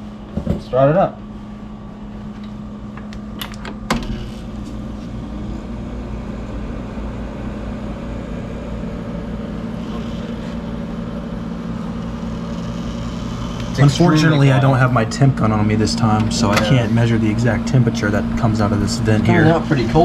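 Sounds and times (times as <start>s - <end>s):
window air conditioner running: 0.0s - 20.0s.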